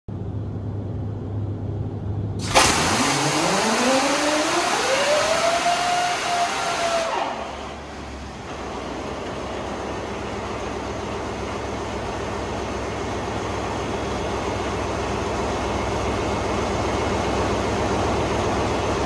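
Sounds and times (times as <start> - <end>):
diesel engine humming: 0.1 - 19.0.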